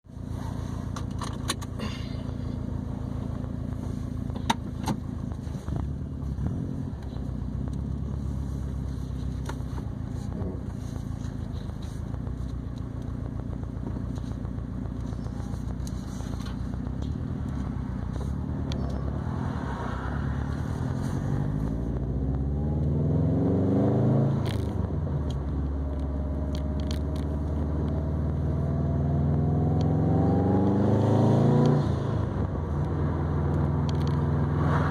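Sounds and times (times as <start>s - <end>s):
car exhaust droning: 0.1s - 34.9s.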